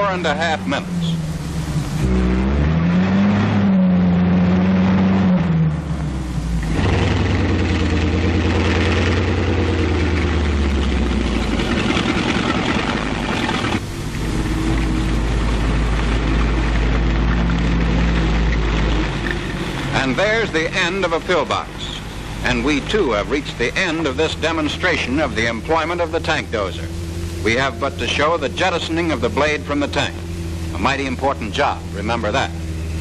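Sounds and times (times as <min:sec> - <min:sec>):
tank engine revving: 0:00.0 - 0:33.0.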